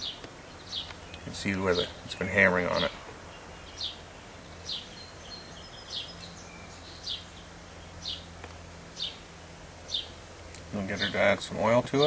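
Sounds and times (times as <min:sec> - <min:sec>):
bird chirping: 0:00.0 - 0:11.4
low steady hum: 0:00.0 - 0:12.0.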